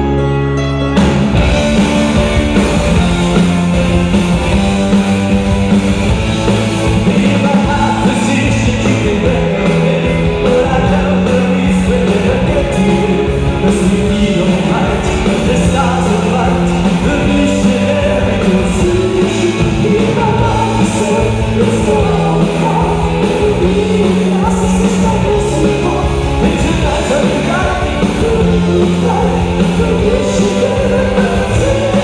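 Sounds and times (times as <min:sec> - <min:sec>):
live rock band playing: 0:00.0 - 0:32.0
drum kit beat: 0:01.0 - 0:32.0.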